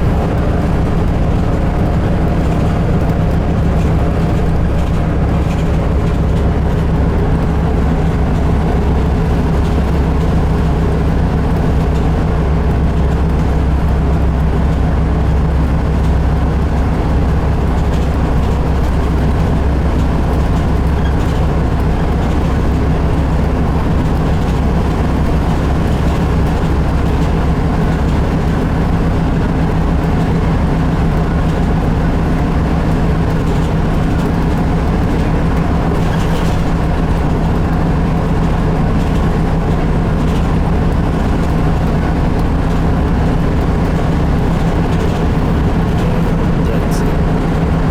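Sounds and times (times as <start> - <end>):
bus diesel engine running: 0.0 - 47.9
road noise: 0.0 - 47.9.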